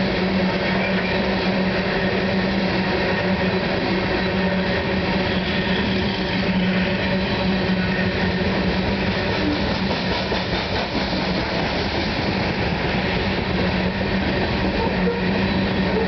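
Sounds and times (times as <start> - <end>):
steel train wheels on rails: 0.0 - 16.0.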